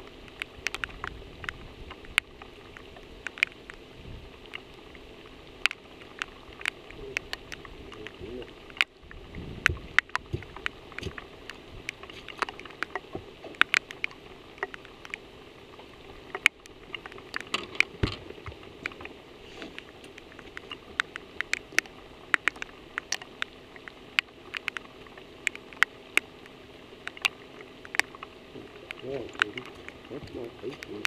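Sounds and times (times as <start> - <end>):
raindrops ticking on camera: 0.0 - 31.0
soft rain hiss: 0.0 - 31.0.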